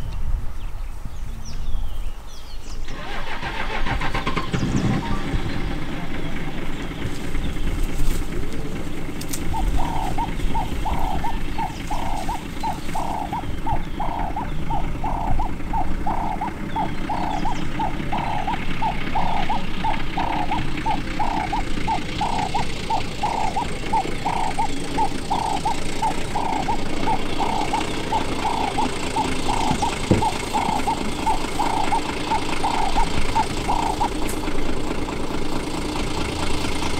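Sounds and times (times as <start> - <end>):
bird calling short notes: 5.7 - 36.7.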